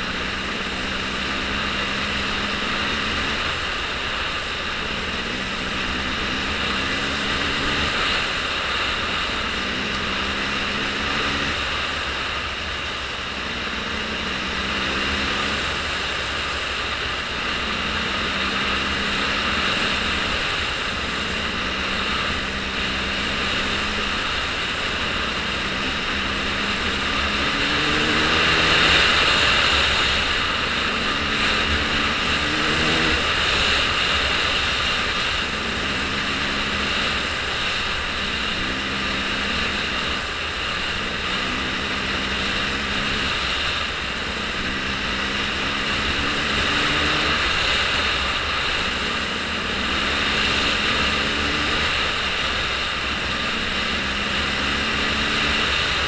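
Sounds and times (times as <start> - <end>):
rushing noise: 0.0 - 56.0.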